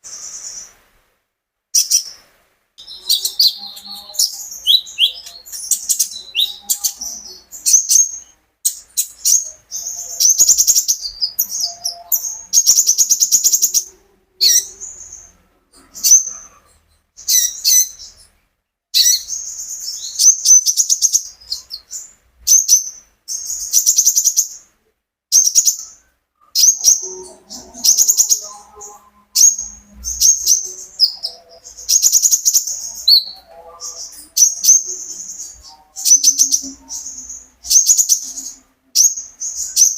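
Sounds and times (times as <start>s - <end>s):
bird singing chattering phrases: 1.8s - 2.2s, 2.8s - 18.3s, 19.0s - 24.7s, 25.3s - 39.9s.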